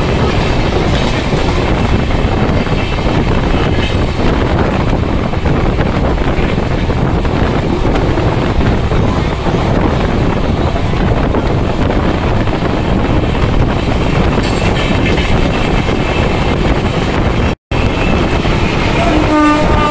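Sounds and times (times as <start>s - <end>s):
moving train rumble: 0.0s - 19.9s
wind buffeting microphone: 0.0s - 19.9s.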